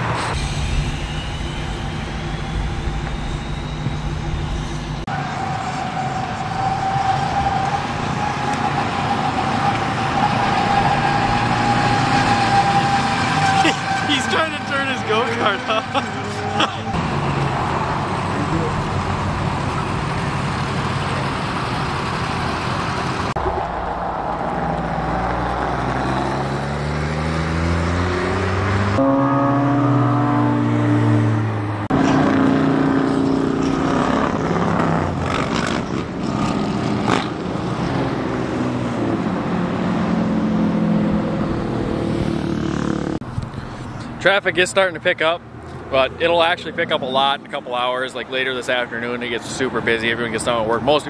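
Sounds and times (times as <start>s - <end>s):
vehicles driving past: 0.0s - 51.0s.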